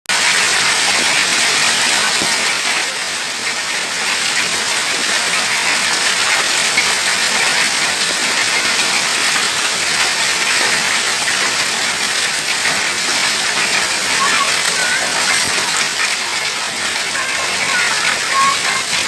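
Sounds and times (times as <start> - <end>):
hail and rain pelting down: 0.1 - 19.0.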